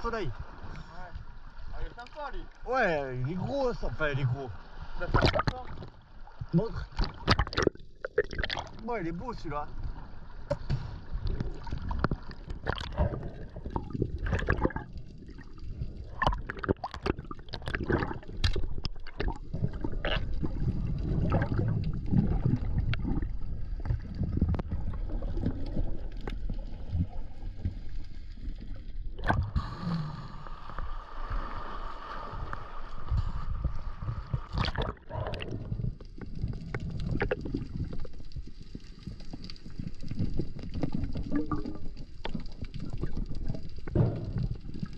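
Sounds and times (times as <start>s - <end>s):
water sloshing and gurgling: 0.0s - 44.9s
underwater knocks and clicks: 5.0s - 29.6s, 33.1s - 44.9s.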